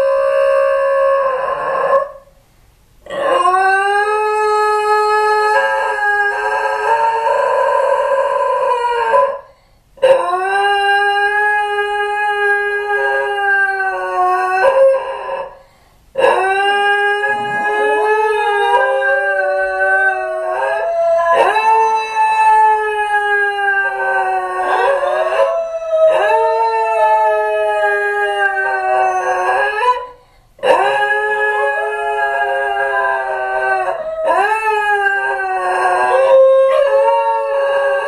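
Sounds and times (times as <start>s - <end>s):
dogs howling: 0.0s - 2.2s, 3.1s - 15.6s, 16.2s - 38.0s.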